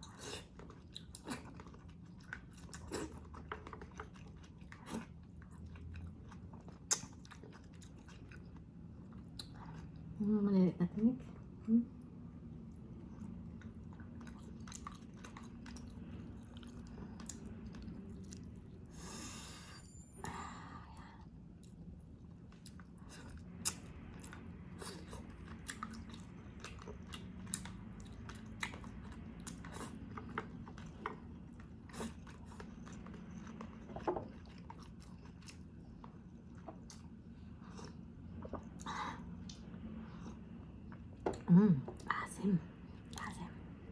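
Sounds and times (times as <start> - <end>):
person chewing: 0.0 - 10.1, 12.7 - 19.6, 21.5 - 41.4
low steady hum: 0.0 - 43.9.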